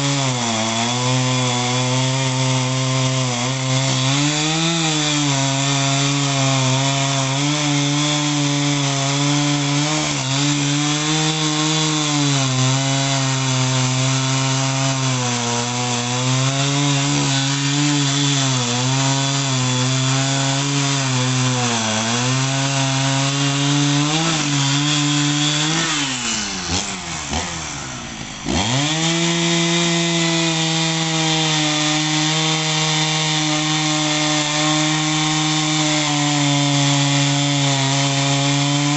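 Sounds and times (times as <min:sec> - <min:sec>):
chainsaw cutting logs: 0:00.0 - 0:38.9.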